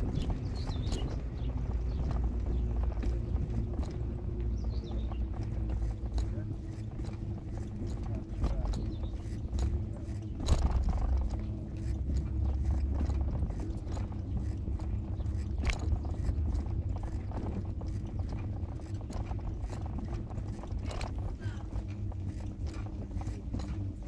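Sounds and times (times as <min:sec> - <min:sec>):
clicks and rattles: 0:00.0 - 0:24.0
vehicle running rumble: 0:00.0 - 0:24.0.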